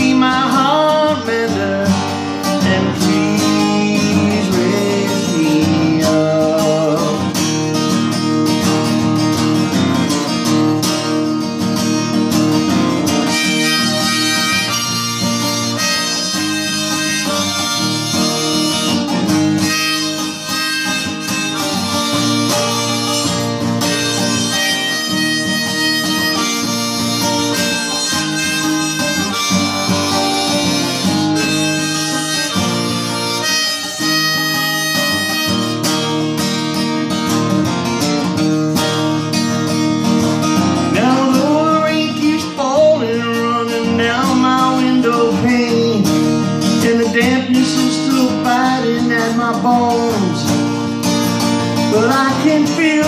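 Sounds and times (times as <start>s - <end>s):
acoustic guitar strumming: 0.0s - 53.0s
harmonica melody: 0.0s - 53.0s.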